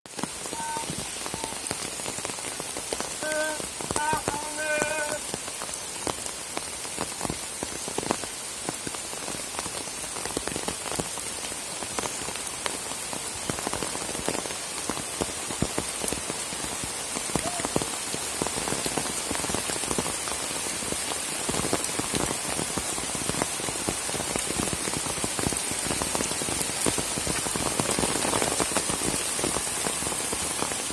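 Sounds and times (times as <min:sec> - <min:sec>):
rain falling: 0:00.0 - 0:30.9.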